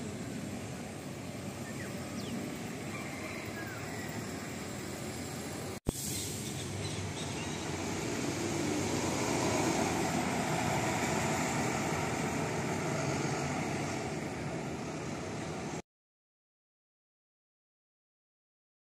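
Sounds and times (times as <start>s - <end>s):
bus engine driving past: 0.0s - 15.8s.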